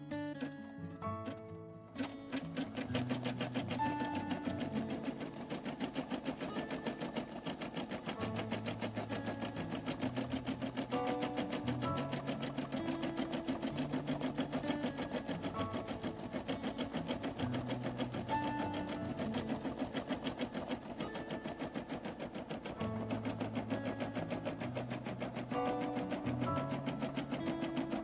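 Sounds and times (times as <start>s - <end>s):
embroidery machine needle strokes: 0.0s - 28.0s.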